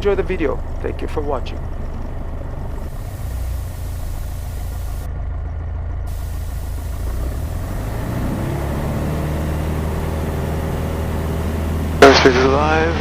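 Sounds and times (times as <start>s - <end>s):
aircraft piston engine: 0.0s - 5.1s, 6.1s - 13.0s.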